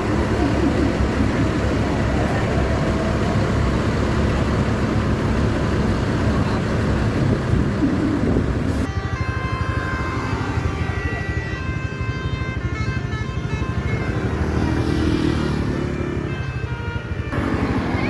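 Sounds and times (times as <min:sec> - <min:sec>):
bus engine rumbling: 0:00.0 - 0:18.0.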